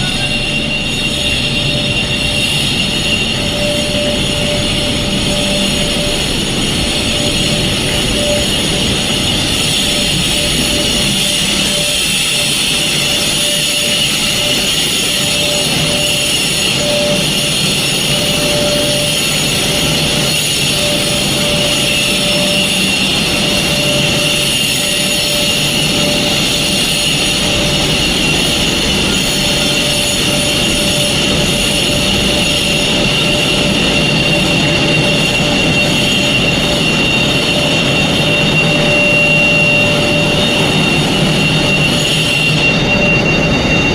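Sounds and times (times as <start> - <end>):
faint lower alarm tone: 0.0 - 43.9
fire alarm high-pitched tone: 0.0 - 43.9
loud mechanical rush: 0.0 - 43.9.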